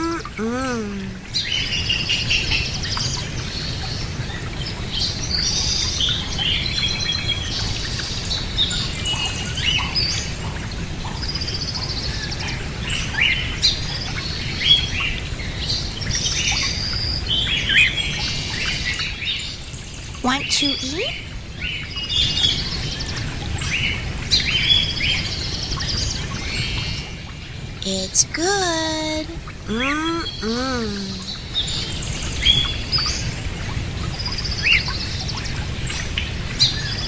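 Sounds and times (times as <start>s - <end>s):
low background noise: 0.0s - 37.0s.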